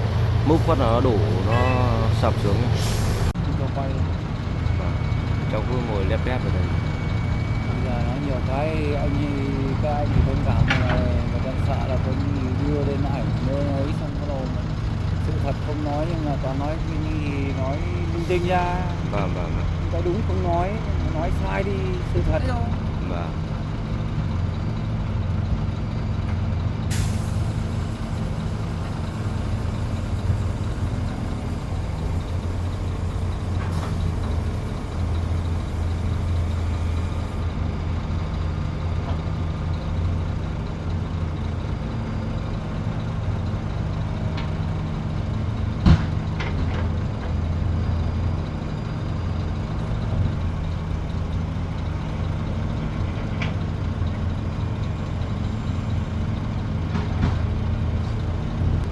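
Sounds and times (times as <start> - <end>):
heavy diesel engines droning: 0.0 - 58.9.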